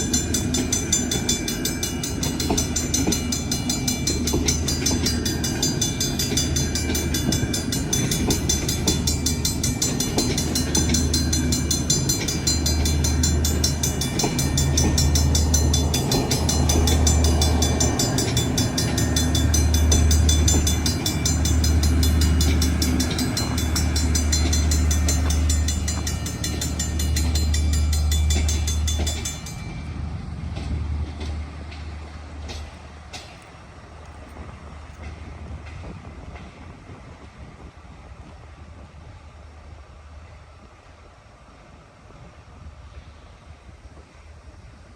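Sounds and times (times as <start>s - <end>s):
train passing on rails: 0.0s - 44.9s.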